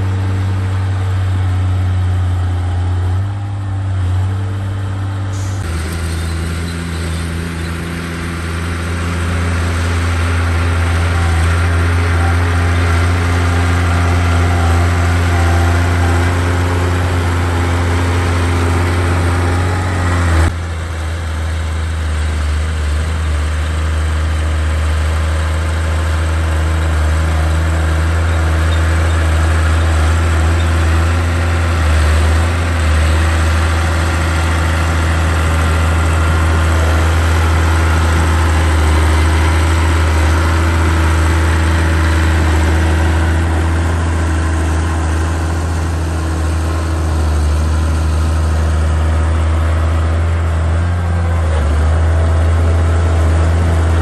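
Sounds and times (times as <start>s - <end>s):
bulldozer diesel engine humming: 0.0s - 54.0s.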